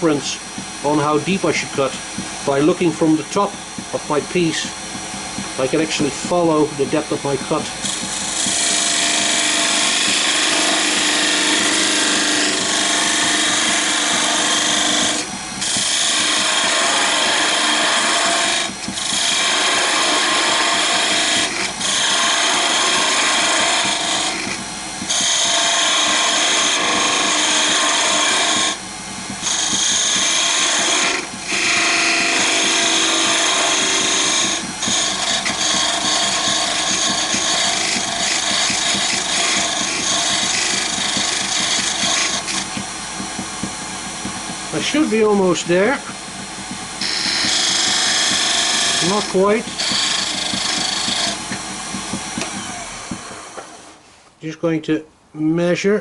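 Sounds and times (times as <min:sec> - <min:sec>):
lathe tool scraping wood: 0:00.0 - 0:54.2.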